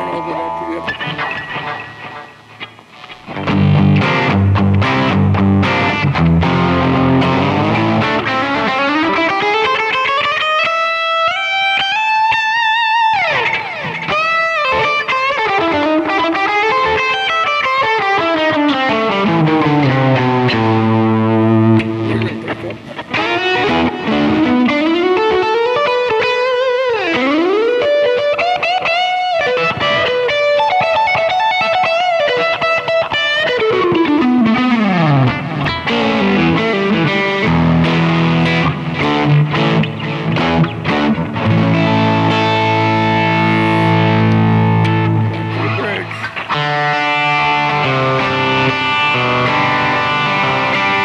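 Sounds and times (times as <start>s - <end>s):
overdriven electric guitar: 0.0s - 51.0s.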